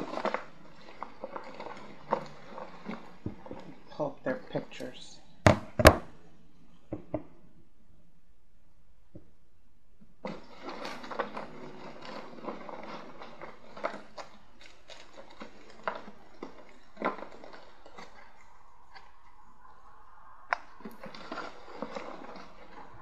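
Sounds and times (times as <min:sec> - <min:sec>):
dry rustling: 0:00.0 - 0:06.2, 0:10.1 - 0:23.0.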